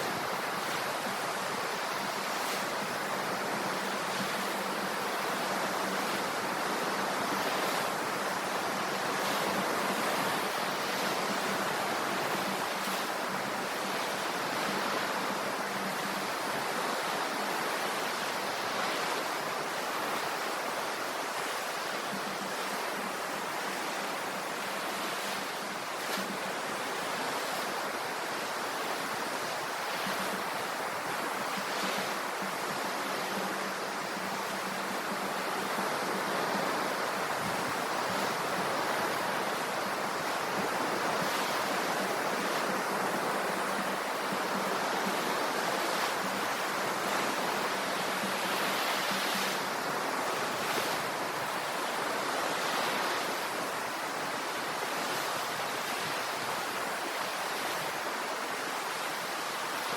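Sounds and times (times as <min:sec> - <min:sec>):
ocean waves washing onto shore: 0:00.0 - 0:59.9.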